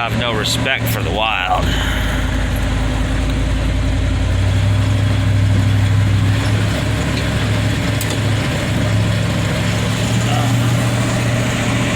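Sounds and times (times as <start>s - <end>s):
tyre and road noise: 0.0s - 11.9s
vehicle engine running: 0.0s - 11.9s.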